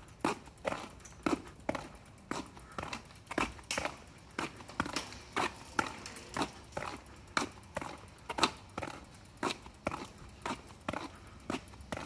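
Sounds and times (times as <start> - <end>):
footsteps on asphalt: 0.0 - 12.0.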